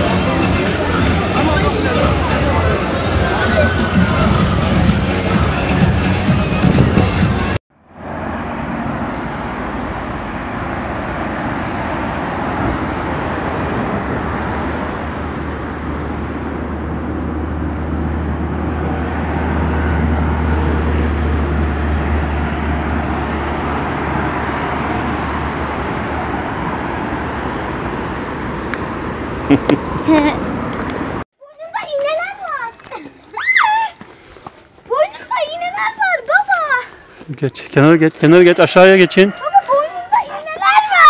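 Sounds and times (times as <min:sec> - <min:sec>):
moving car engine and tyre noise: 0:00.0 - 0:31.2, 0:32.1 - 0:41.0.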